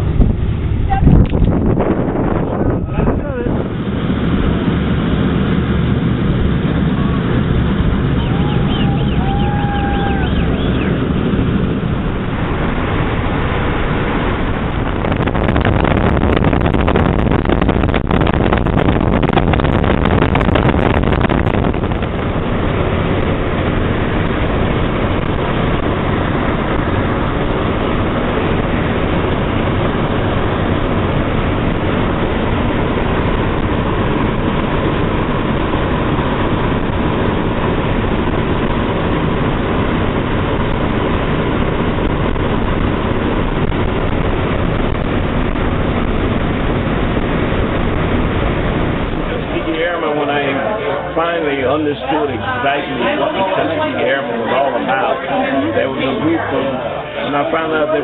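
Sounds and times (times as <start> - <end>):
propeller engines droning: 0.0 - 58.0.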